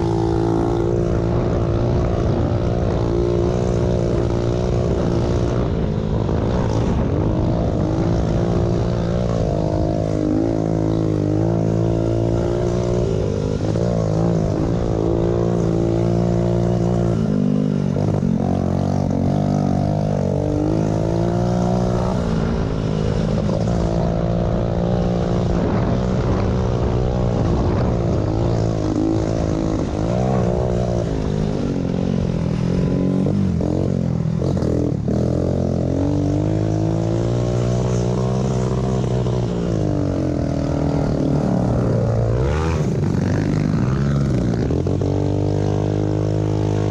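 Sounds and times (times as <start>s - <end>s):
small bike engines revving: 0.0s - 46.9s.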